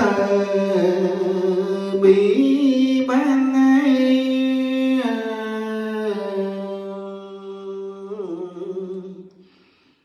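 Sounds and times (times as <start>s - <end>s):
solo voice chanting: 0.0s - 9.6s.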